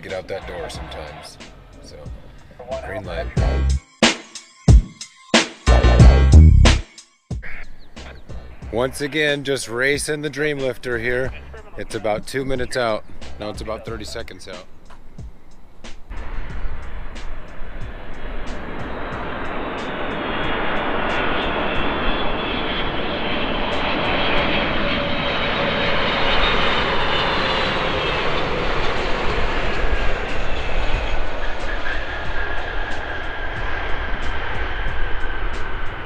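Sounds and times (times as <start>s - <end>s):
jet engines roaring: 0.0s - 4.2s, 7.4s - 36.0s
jet engine whine falling: 0.0s - 6.4s, 7.5s - 36.0s.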